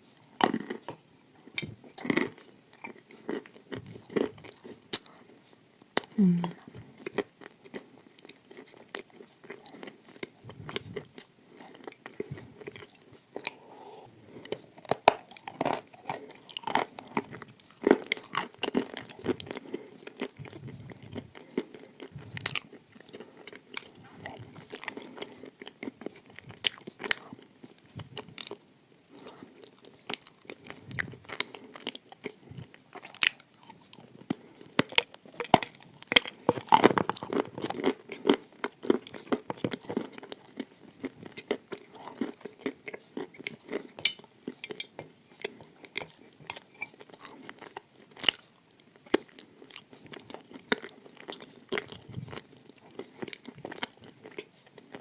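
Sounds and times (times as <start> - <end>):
person chewing crunchy cookies: 0.0 - 55.0.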